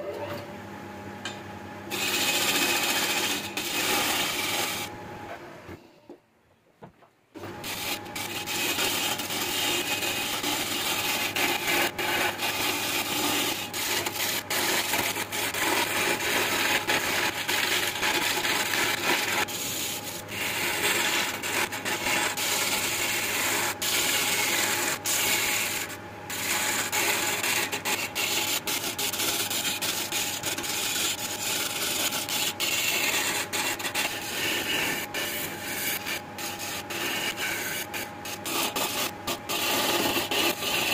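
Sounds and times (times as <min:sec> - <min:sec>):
lathe tool scraping wood: 0:01.9 - 0:05.0, 0:07.4 - 0:40.9.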